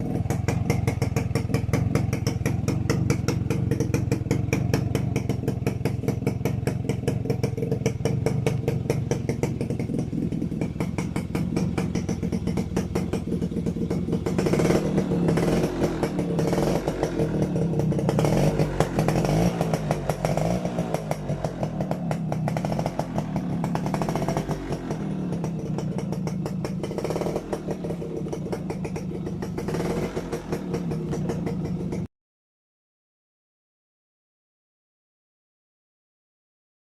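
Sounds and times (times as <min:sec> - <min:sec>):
two-stroke engine revving: 0:00.0 - 0:32.1.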